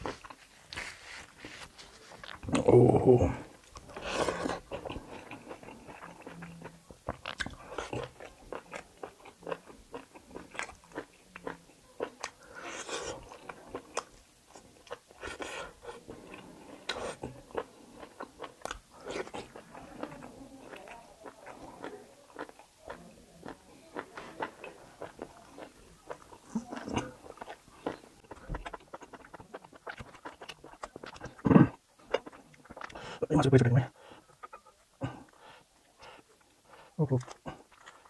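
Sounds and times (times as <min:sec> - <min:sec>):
biting and chewing: 0:00.0 - 0:33.2, 0:37.2 - 0:38.0.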